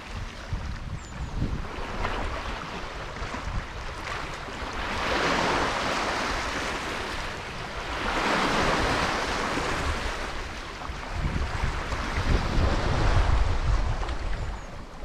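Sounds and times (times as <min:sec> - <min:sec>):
waves washing against a jetty: 0:00.0 - 0:15.0
wind: 0:00.0 - 0:15.0.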